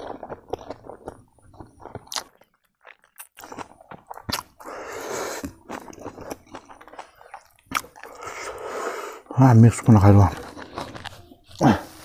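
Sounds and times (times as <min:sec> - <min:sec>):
chewing with wet mouth clicks: 0:00.0 - 0:08.6, 0:10.1 - 0:11.6.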